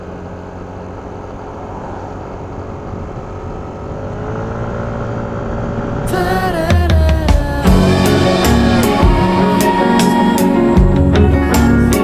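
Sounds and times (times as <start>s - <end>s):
scooter engine accelerating: 0.0s - 12.0s.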